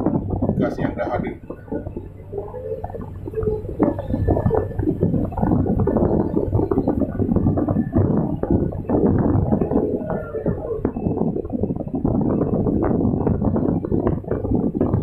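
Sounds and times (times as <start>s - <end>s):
excavator engine drone: 0.0s - 15.0s.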